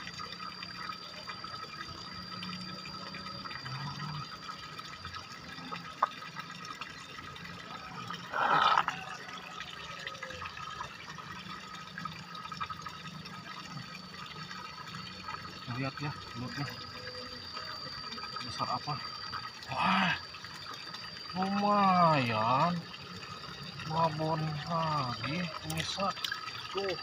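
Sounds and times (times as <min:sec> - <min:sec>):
muddy water trickling and dripping: 0:00.0 - 0:27.0.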